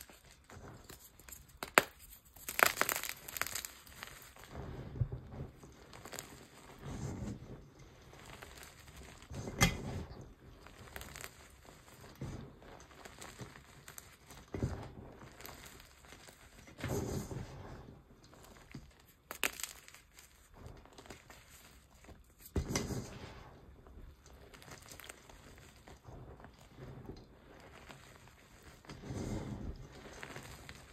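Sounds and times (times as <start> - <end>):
fingers crunching powder: 0.0 - 30.9.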